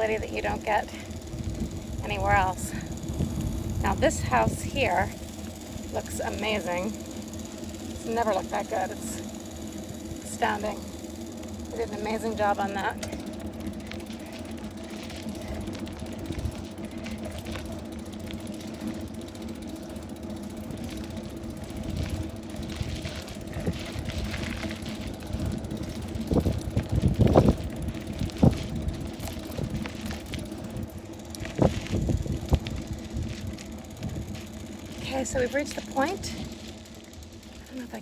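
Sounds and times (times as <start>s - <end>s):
bicycle knocks and rattles: 0.0s - 38.0s
bicycle rolling on road: 0.0s - 38.0s.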